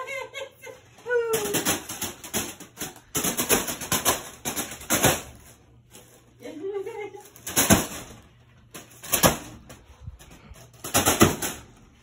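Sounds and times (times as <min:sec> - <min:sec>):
fan blades slapping foil balloon: 0:00.0 - 0:12.0.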